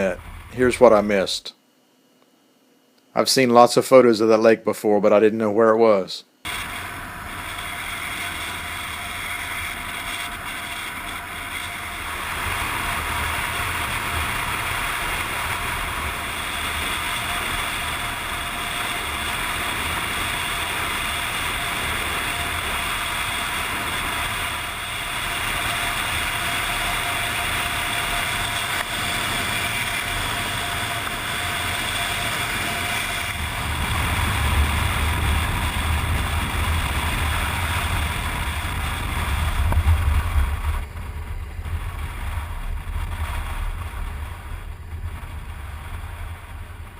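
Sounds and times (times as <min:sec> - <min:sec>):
motorcycle engine drone: 0:00.0 - 0:01.5, 0:06.4 - 0:46.9
wind noise: 0:06.5 - 0:46.9.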